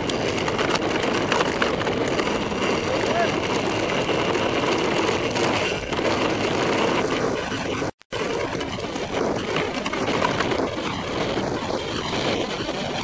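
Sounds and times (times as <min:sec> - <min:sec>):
bike tyres rattling on gravel: 0:00.0 - 0:13.0.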